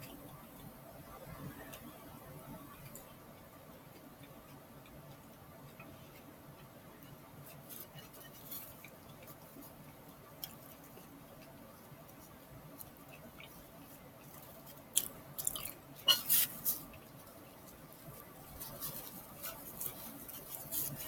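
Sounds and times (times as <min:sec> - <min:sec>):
person chewing food: 0:02.6 - 0:21.0.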